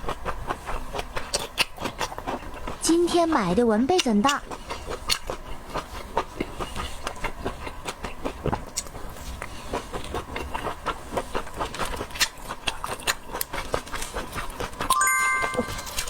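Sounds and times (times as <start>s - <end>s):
chewing and handling shellfish: 0.0s - 14.9s.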